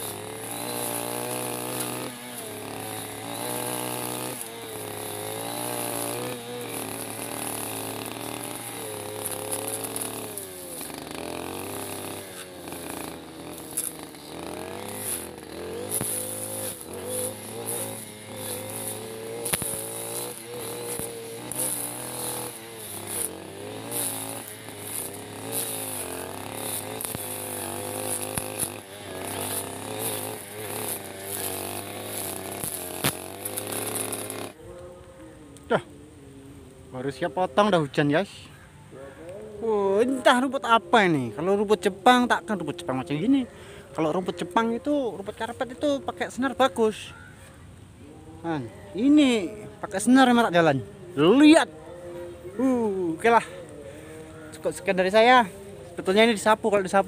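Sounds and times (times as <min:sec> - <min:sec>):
brush cutter cutting grass: 0:00.0 - 0:38.4, 0:39.0 - 0:57.0.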